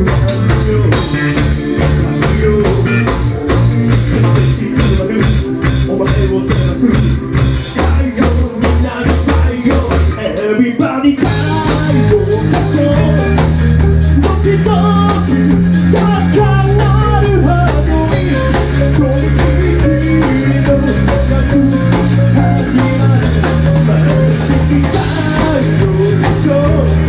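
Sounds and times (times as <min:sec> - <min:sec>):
bass guitar: 0:00.0 - 0:27.0
drum kit: 0:00.0 - 0:27.0
electric guitar: 0:00.0 - 0:27.0
person singing: 0:00.0 - 0:27.0.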